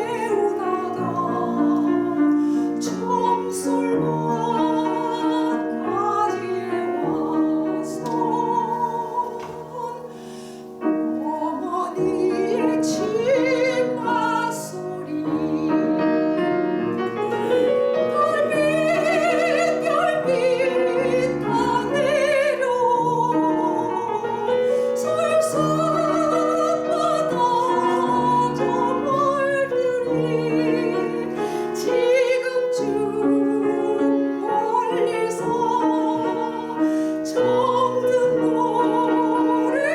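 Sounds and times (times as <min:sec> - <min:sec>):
piano accompaniment: 0:00.0 - 0:39.9
soprano singing with vibrato: 0:00.0 - 0:39.9.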